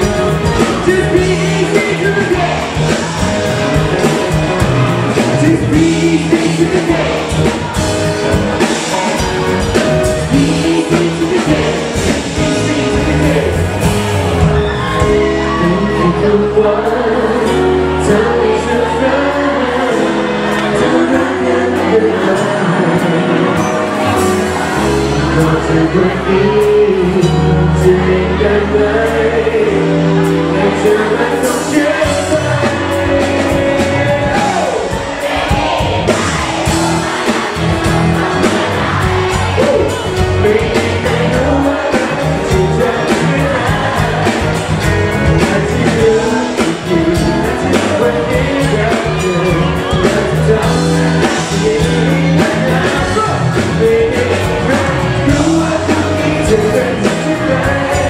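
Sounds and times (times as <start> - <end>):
faint audience voices: 0.0 - 58.0
live pop-rock band: 0.0 - 58.0
person singing: 0.0 - 58.0.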